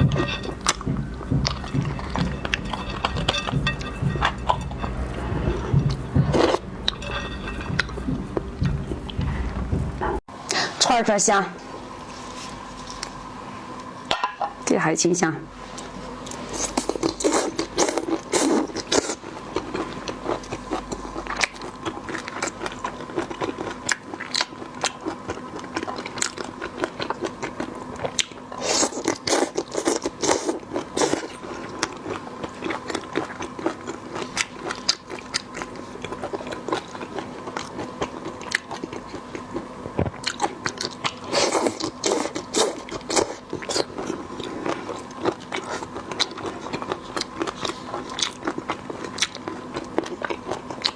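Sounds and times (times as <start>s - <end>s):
person chewing crunchy food: 0.0s - 10.2s, 15.8s - 50.9s.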